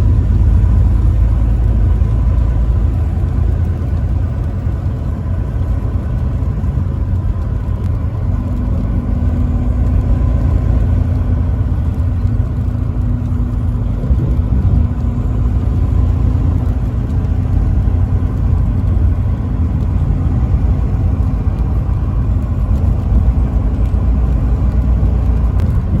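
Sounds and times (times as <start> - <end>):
vehicle driving on a highway: 0.0 - 26.0.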